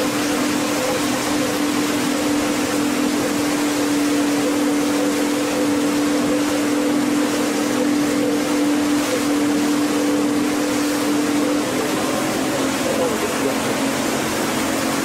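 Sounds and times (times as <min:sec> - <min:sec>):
boat engine drone: 0:00.0 - 0:15.0
hiss of water and wind: 0:00.0 - 0:15.0.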